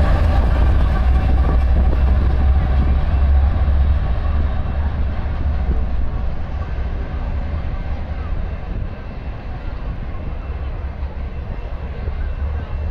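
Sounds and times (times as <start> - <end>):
diesel freight train rumbling: 0.0 - 12.9.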